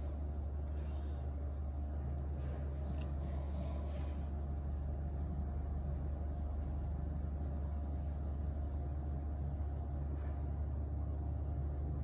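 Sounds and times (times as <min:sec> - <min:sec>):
low droning background noise: 0:00.0 - 0:12.0.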